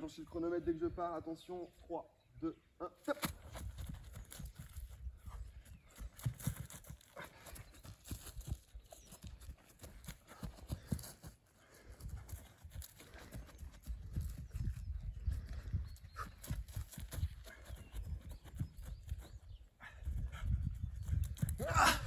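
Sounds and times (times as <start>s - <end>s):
running footsteps on grass: 3.2s - 21.5s.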